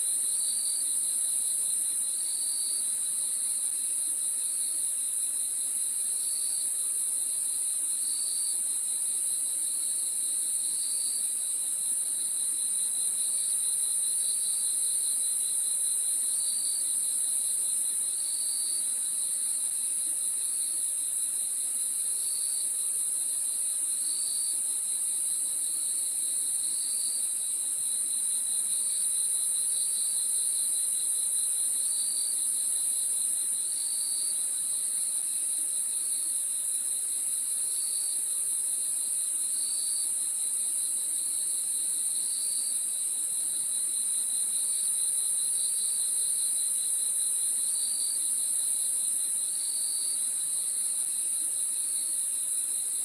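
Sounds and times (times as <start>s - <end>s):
low pulsed cricket chirp: 0.0s - 53.0s.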